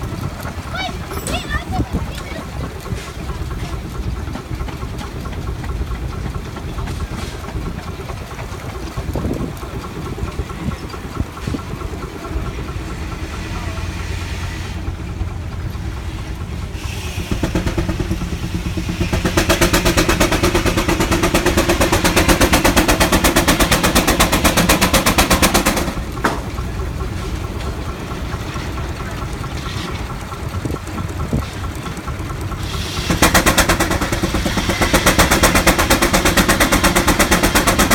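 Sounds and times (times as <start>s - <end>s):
steam engine chuffing: 0.0s - 37.9s.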